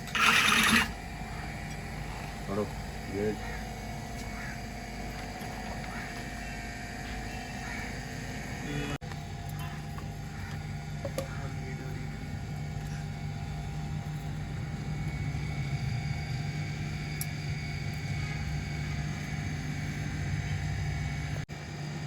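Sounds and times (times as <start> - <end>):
car engine idling: 1.2 - 21.4.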